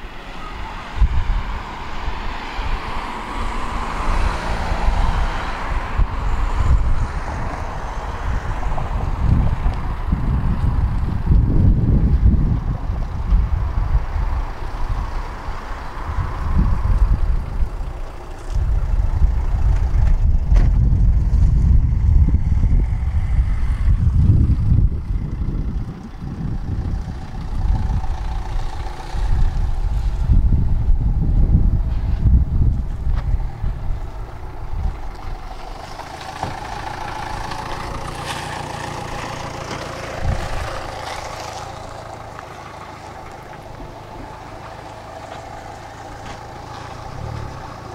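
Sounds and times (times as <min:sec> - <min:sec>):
tram rumbling on track: 0:00.0 - 0:47.9.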